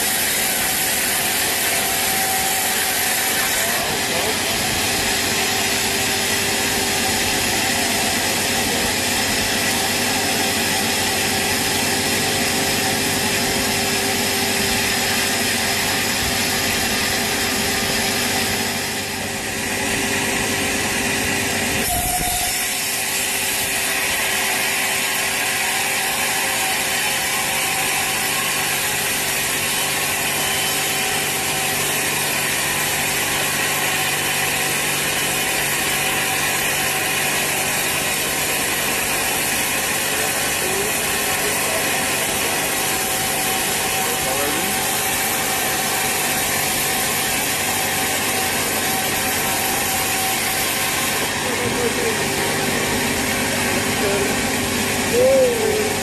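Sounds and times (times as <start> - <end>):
sawmill saw cutting wood: 0.0 - 56.0.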